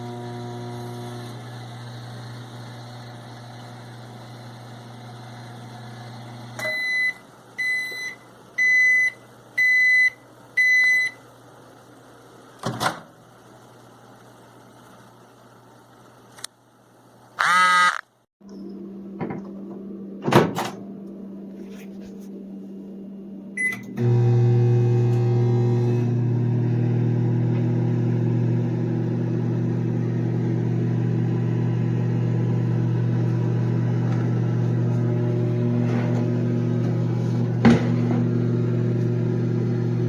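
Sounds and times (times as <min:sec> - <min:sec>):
microwave humming: 0:00.0 - 0:16.2, 0:18.4 - 0:40.0.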